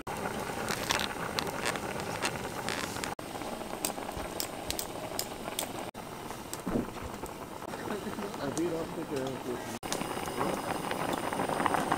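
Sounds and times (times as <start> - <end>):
soup boiling and bubbling: 0.0 - 11.9.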